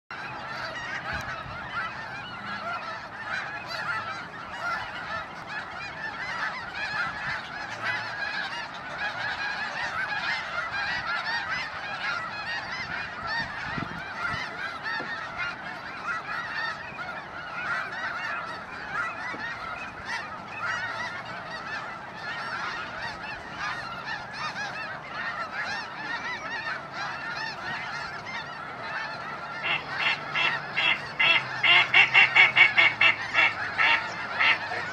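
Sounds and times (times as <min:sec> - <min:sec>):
flock of geese honking: 0:00.1 - 0:34.9.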